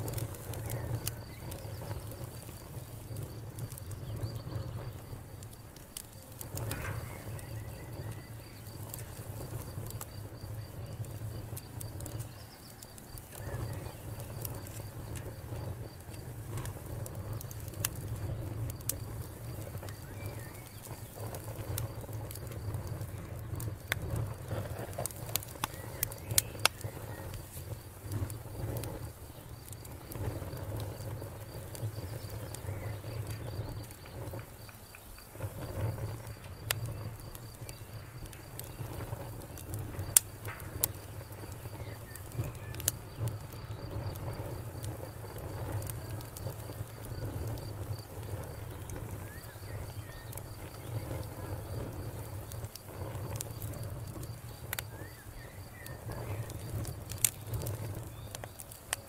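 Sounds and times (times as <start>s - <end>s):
campfire crackling and popping: 0.0s - 59.0s
low fire rumble: 0.0s - 59.0s.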